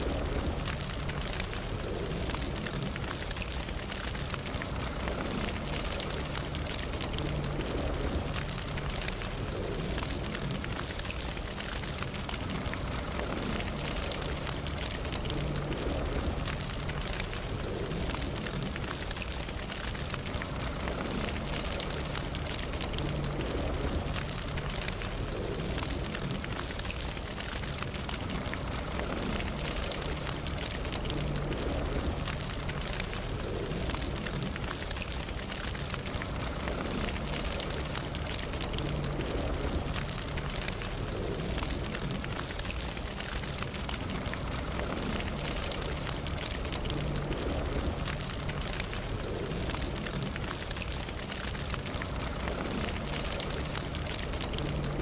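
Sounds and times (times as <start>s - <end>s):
campfire crackling and popping: 0.0s - 55.0s
low rumble: 0.0s - 55.0s.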